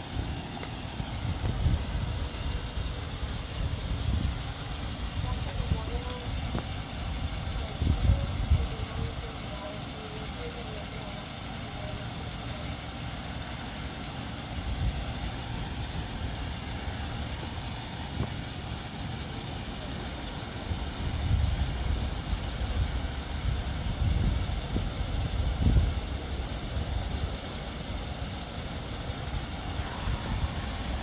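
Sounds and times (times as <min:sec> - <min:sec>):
motor vehicle engine rumbling: 0:00.0 - 0:31.0.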